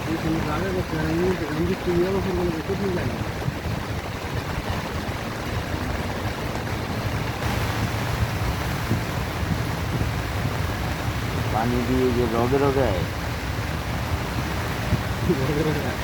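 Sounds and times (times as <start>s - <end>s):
low rumble: 0.0s - 16.0s
rain falling: 0.0s - 16.0s.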